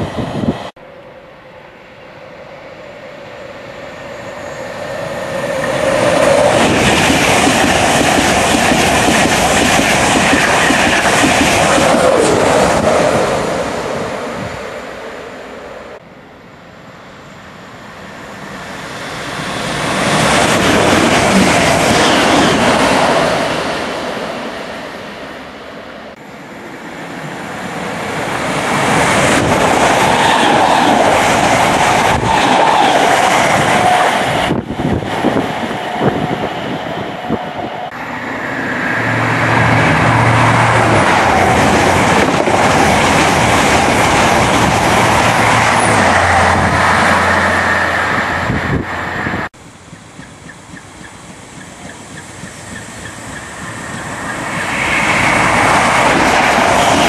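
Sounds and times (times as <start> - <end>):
train wheels rumbling on rails: 3.9 - 15.2, 17.7 - 25.7, 26.5 - 57.0.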